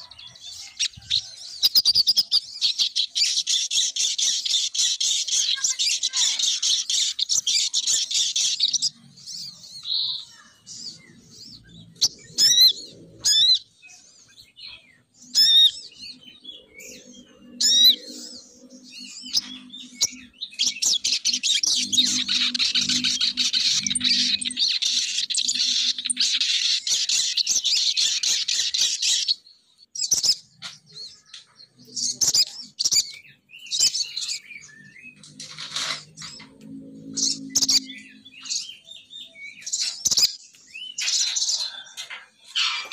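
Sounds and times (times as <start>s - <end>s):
bird chirping and trilling: 0.0s - 42.9s.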